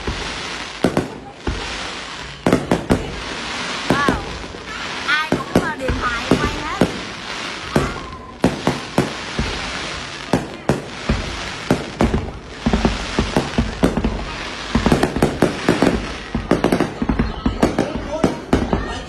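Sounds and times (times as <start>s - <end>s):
firework shells bursting: 0.0s - 18.8s
fireworks crackling hiss: 0.0s - 19.0s.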